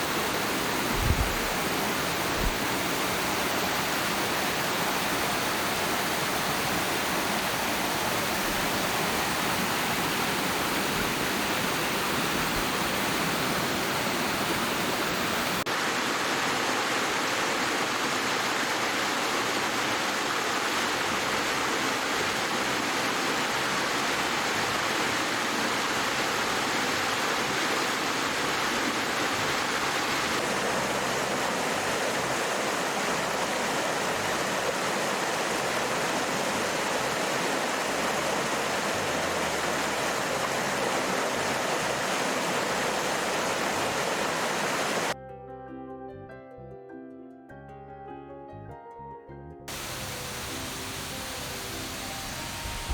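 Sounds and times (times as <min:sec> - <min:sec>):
cascading water rushing: 0:00.0 - 0:45.2, 0:49.7 - 0:52.9.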